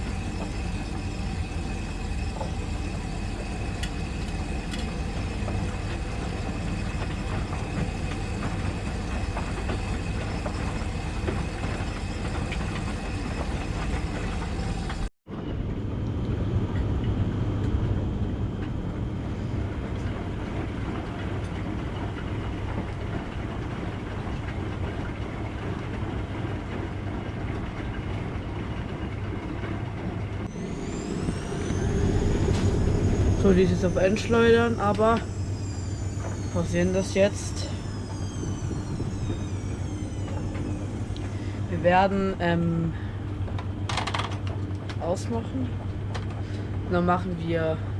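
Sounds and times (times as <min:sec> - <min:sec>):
rising whine: 0:00.0 - 0:23.4, 0:30.3 - 0:46.9
washing machine running: 0:00.0 - 0:47.9.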